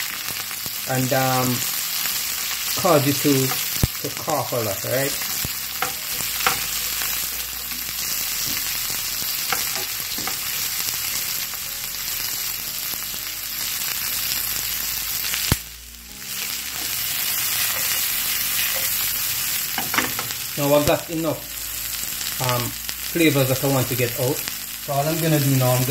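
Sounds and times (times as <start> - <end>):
vegetables sizzling in oil: 0.0 - 25.9.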